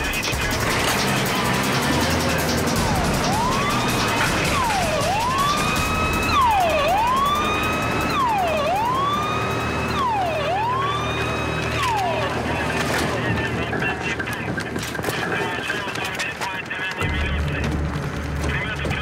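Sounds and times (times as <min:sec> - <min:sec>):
police siren wailing: 0:00.5 - 0:16.2.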